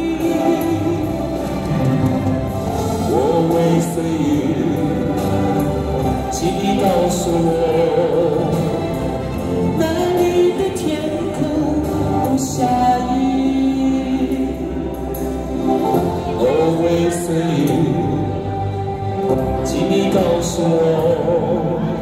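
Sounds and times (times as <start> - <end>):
backing track through speakers: 0.0 - 22.0.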